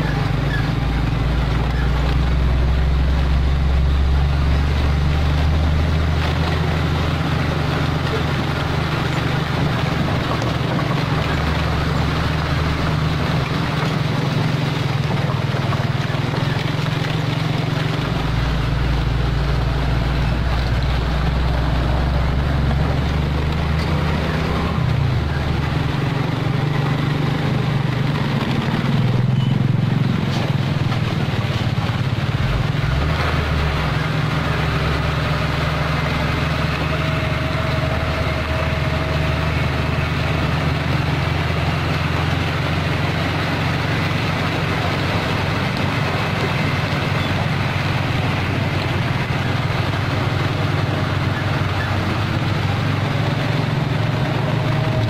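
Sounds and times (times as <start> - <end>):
truck diesel engine running: 0.0 - 55.0.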